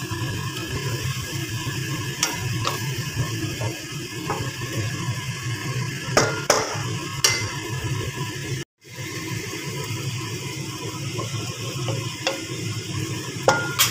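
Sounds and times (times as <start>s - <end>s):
frying sizzle: 0.0s - 13.9s
spatula stirring vegetables in wok: 0.0s - 13.9s.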